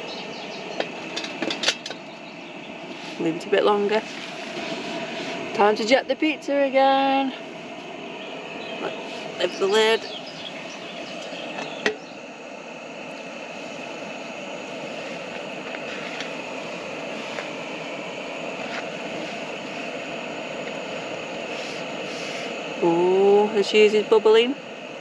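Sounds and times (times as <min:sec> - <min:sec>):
gas burner hissing: 0:00.0 - 0:25.0.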